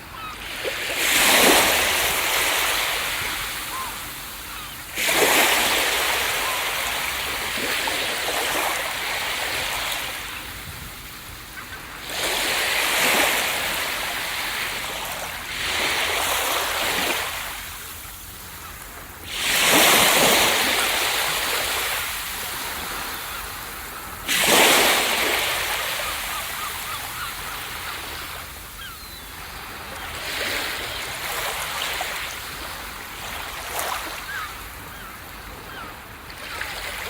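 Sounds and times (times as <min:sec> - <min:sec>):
ocean waves breaking on beach: 0:00.0 - 0:37.0.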